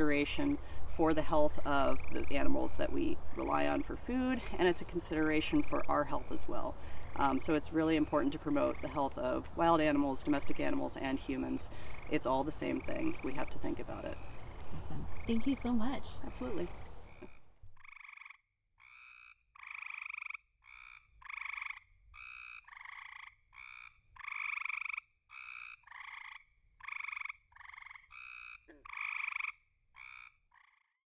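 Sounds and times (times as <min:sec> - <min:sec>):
frogs trilling: 0:01.2 - 0:31.0.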